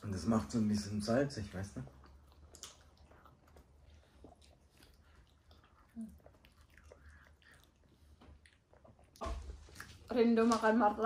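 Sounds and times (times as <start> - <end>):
faint chewing: 1.4 - 10.7.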